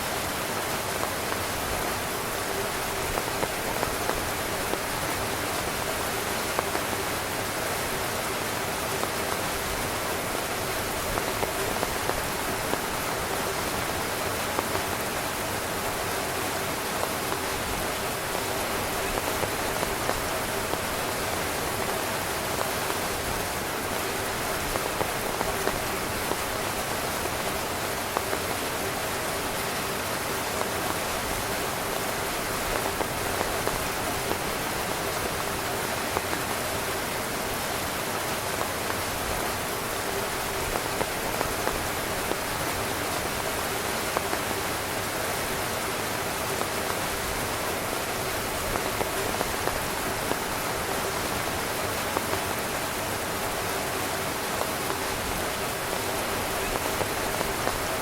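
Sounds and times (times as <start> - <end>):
heavy rain drumming on tent: 0.0 - 58.0.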